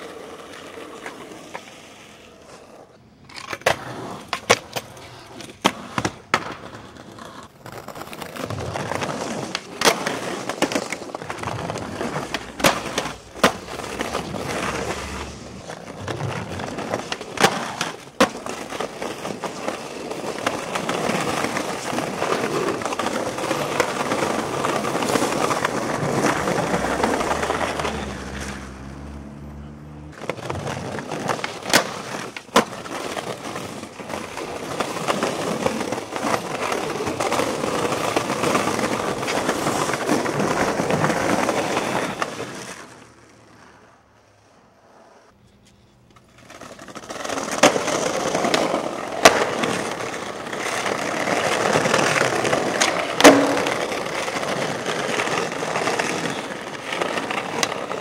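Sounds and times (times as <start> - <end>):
skateboard clacking: 0.0 - 28.9, 30.1 - 43.9, 45.6 - 58.0
skateboard wheels rolling on pavement: 0.0 - 58.0.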